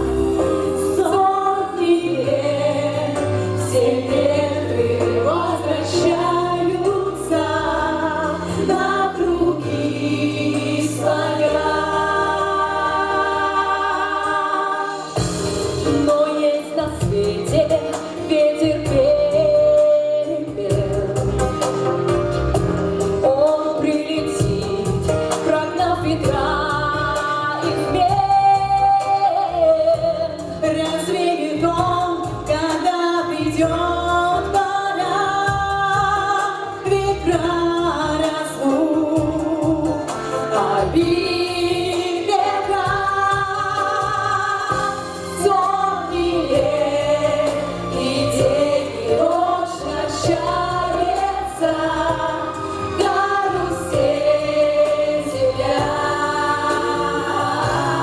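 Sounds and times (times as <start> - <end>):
group singing in chorus: 0.0 - 21.9, 23.0 - 58.0
instrumental accompaniment: 0.0 - 58.0.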